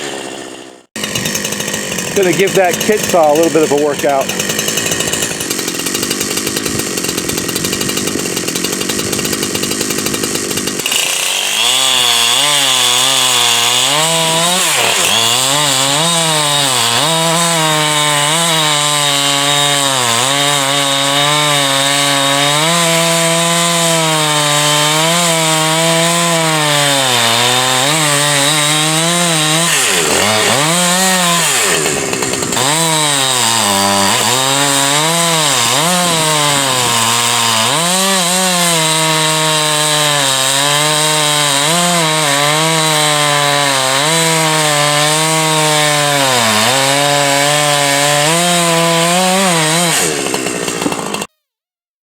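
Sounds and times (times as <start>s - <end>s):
chainsaw cutting log: 0.0s - 51.4s.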